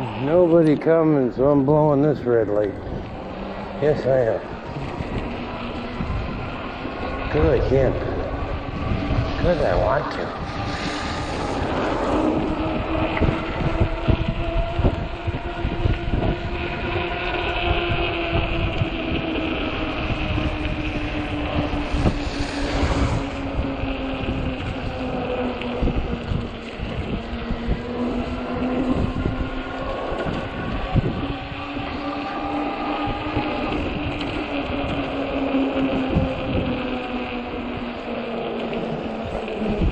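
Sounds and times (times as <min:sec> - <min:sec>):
electric bike hum: 0:00.0 - 0:39.9
electric motor whining: 0:00.0 - 0:39.9
rumble and thumps over pavement: 0:00.0 - 0:39.9
wind buffeting microphone: 0:00.0 - 0:39.9.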